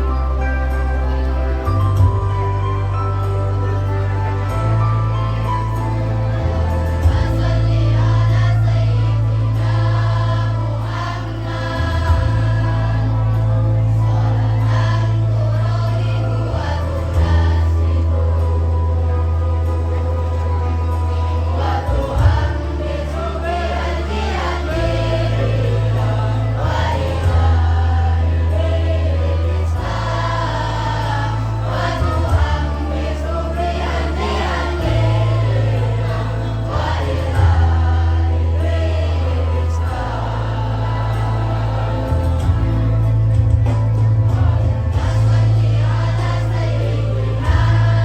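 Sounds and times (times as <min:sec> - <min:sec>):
choir singing: 0:00.0 - 0:48.0
deep sustained bass notes: 0:00.0 - 0:48.0.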